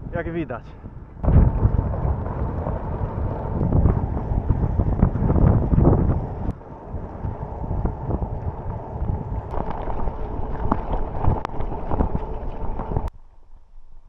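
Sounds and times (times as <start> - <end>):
wind buffeting microphone: 0.0 - 13.1
bicycle rolling on gravel: 1.1 - 14.0.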